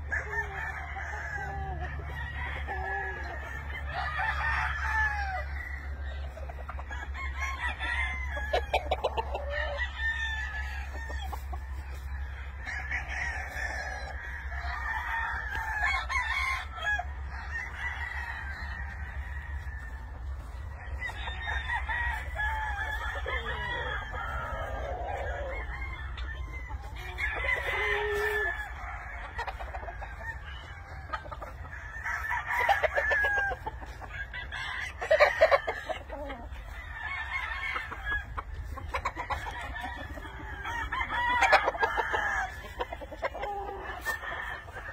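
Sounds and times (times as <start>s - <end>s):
chickens clucking: 0.0s - 44.9s
roosters crowing: 0.0s - 44.9s.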